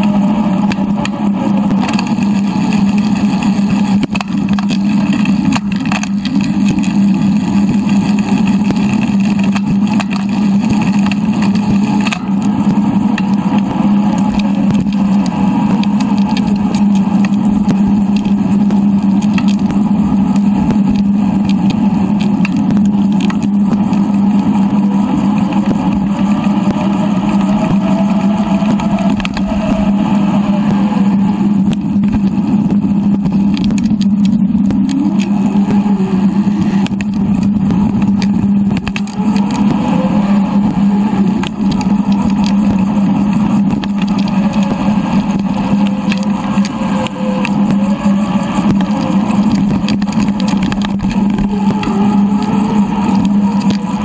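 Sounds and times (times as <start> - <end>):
sped-up bicycle rolling and wind: 0.0 - 54.0.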